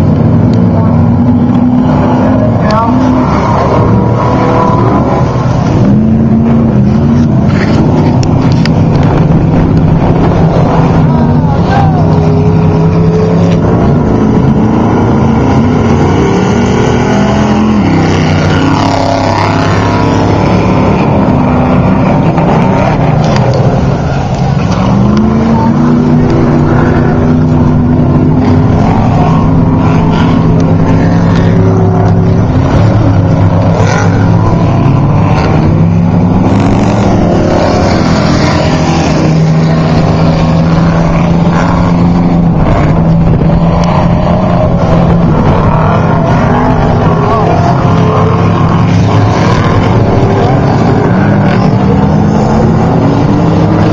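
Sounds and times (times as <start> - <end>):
race truck engines running loud: 0.0 - 53.9.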